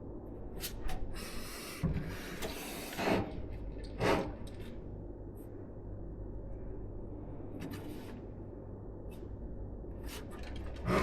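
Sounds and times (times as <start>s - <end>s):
low steady hum: 0.0s - 2.2s, 3.2s - 11.0s.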